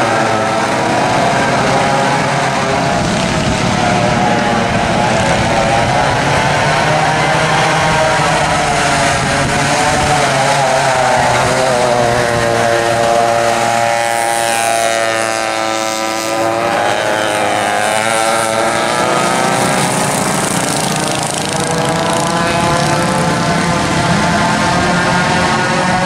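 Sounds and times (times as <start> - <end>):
go-kart engines racing: 0.0 - 26.0.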